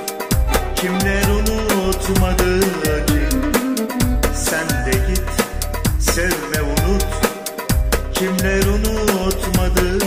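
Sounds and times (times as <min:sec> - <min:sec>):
drum beat: 0:00.0 - 0:10.0
sliding keyboard lead melody: 0:00.0 - 0:10.0
deep bass: 0:00.3 - 0:10.0.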